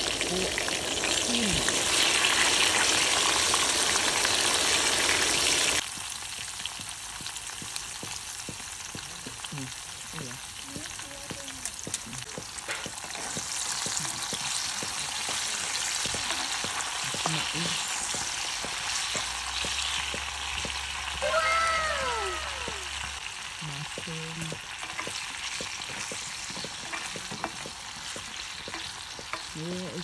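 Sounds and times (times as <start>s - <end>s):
vegetables sizzling in oil: 0.0s - 30.0s.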